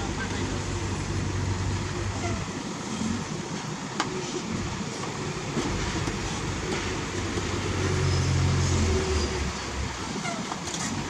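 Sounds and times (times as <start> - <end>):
diesel machinery engine under load: 0.0 - 11.0.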